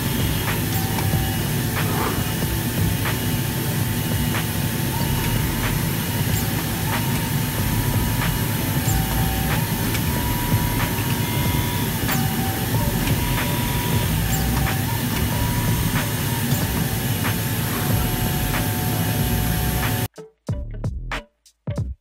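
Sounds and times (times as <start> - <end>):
cutting machine low hum: 0.0 - 20.1
machine whine: 0.0 - 20.1.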